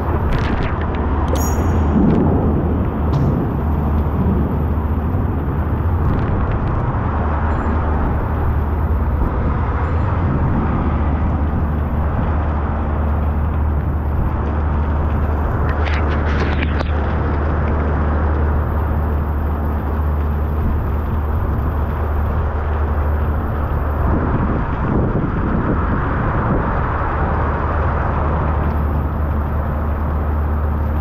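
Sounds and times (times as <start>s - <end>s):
deep low rumble: 0.0s - 31.0s
heavy rain on a street: 1.9s - 31.0s.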